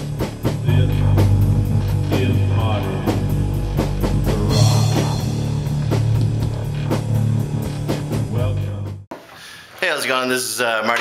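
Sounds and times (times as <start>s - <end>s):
rock music with drums and guitar: 0.0s - 9.0s.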